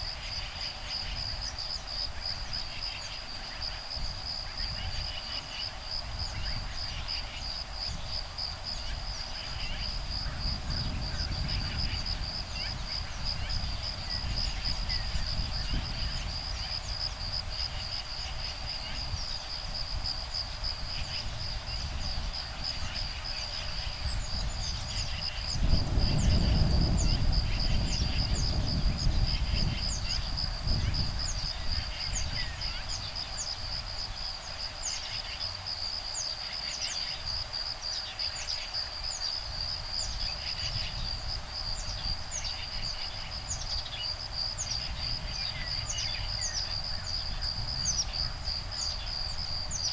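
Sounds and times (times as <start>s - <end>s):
high insect trill: 0.0s - 49.9s
wind rumble on microphone: 0.0s - 49.9s.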